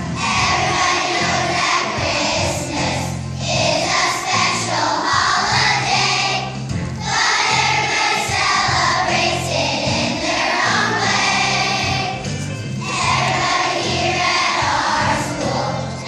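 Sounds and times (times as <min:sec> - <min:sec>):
children's choir singing: 0:00.0 - 0:16.0
instrumental accompaniment low notes: 0:00.0 - 0:16.0.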